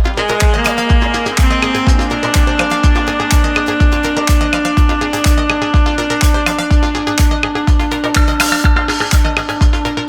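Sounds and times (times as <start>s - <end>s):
electronic dance music: 0.0s - 10.0s
held synth note: 0.0s - 10.0s
kick drum beat: 0.0s - 10.0s.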